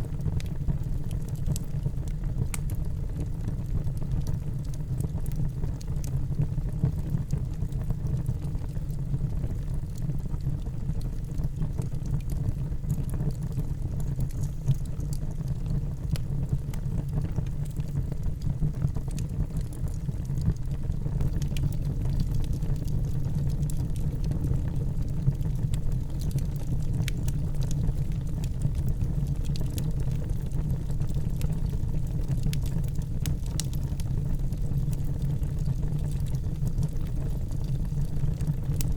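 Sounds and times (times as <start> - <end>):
crackles and pops of burning wood: 0.0 - 38.9
wood fire burning: 0.0 - 38.9.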